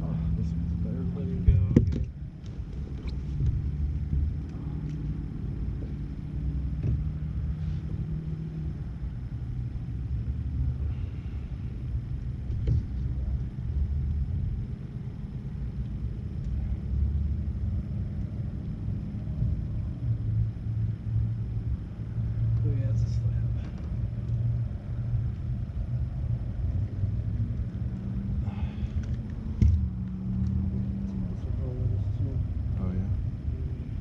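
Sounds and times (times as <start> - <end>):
motor rumbling: 0.0 - 34.0.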